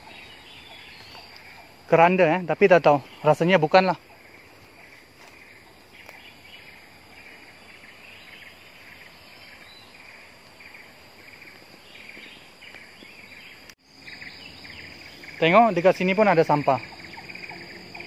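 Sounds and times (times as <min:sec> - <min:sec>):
insects chirping in bursts: 0:00.0 - 0:18.0.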